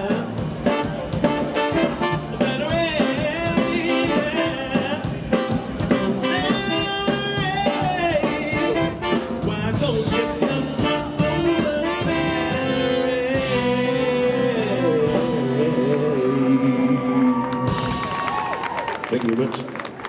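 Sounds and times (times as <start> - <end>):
brass band playing: 0.0 - 16.7.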